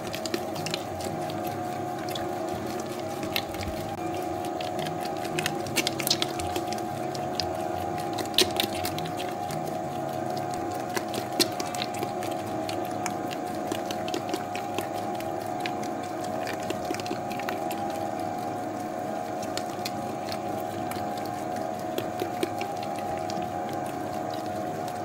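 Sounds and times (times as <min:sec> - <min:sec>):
dough mixer humming: 0:00.0 - 0:25.0
dough slapping and clicking: 0:00.0 - 0:25.0.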